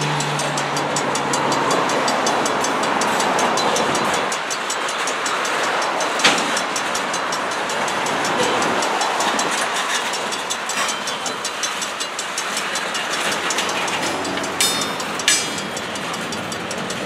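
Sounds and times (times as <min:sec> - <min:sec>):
freight train rolling on rails: 0:00.0 - 0:17.0
train car clank: 0:00.0 - 0:17.0.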